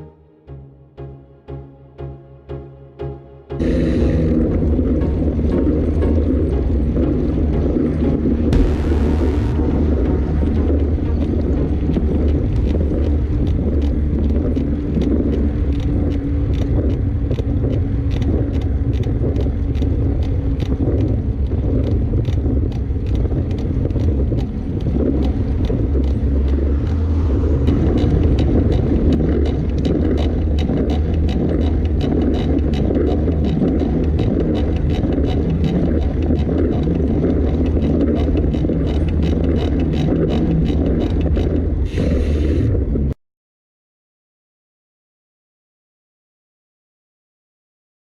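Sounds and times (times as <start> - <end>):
low rumble of riding noise: 3.5 - 43.2
mountain bike creaking: 3.6 - 8.6, 9.6 - 43.1.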